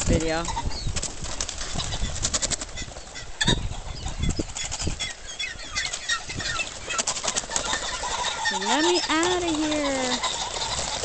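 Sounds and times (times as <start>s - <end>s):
wings fluttering and rustling: 0.0s - 11.0s
high chirping bird calls: 1.8s - 11.0s.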